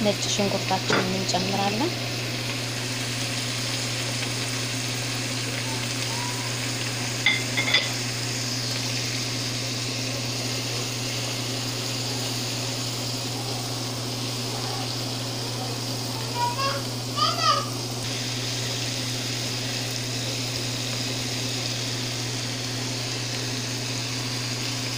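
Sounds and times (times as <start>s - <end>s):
onion sizzling in hot oil: 0.0s - 24.9s.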